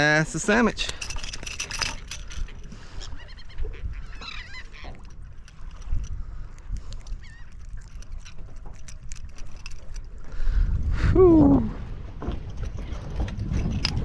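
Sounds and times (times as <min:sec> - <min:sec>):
water rumbling against boat: 0:00.0 - 0:14.0
wind: 0:00.0 - 0:14.0.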